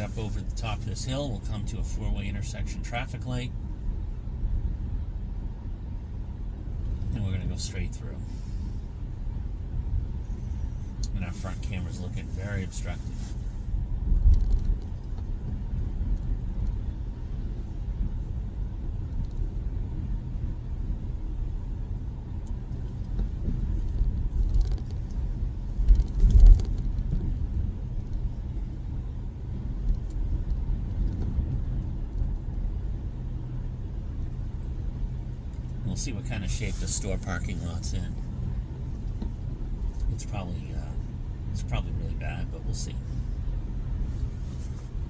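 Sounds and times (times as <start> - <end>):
road and tyre rumble in car cabin: 0.0 - 45.0.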